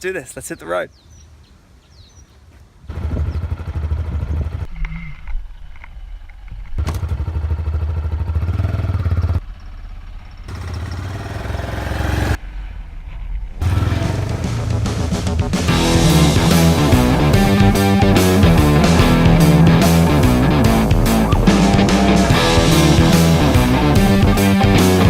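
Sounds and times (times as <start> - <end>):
motorcycle engine rumble: 2.8 - 25.0.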